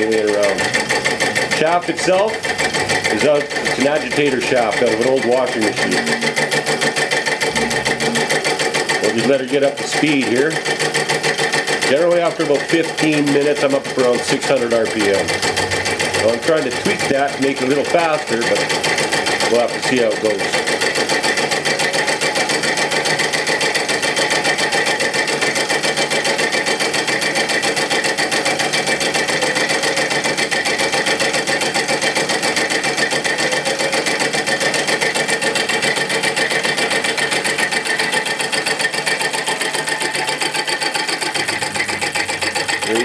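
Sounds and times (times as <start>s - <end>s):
solenoid engine clatter: 0.0s - 43.0s.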